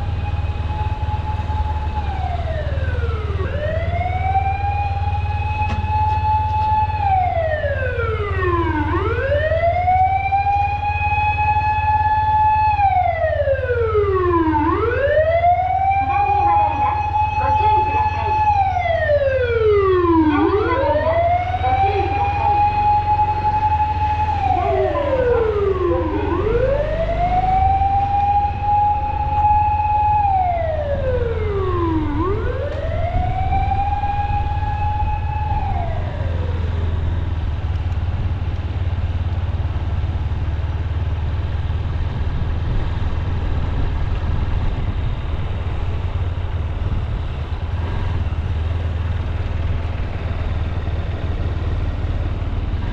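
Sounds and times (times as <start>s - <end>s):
emergency siren wailing: 0.0s - 39.8s, 42.2s - 52.9s
motorcycle engine rumble: 0.0s - 52.9s.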